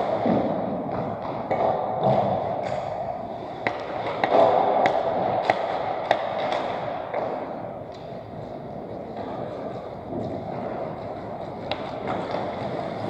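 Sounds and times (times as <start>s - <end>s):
hockey sticks and pucks clacking: 0.0s - 13.0s
skates on ice: 0.0s - 13.0s.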